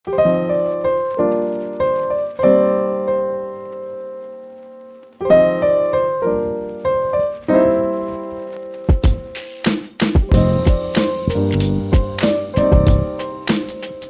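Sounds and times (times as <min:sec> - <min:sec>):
piano chords: 0:00.1 - 0:14.0.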